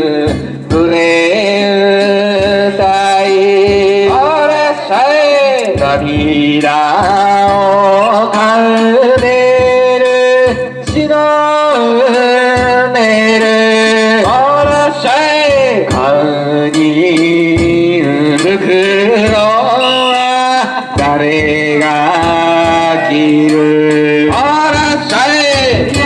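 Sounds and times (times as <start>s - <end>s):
man singing solo: 0.0s - 26.0s.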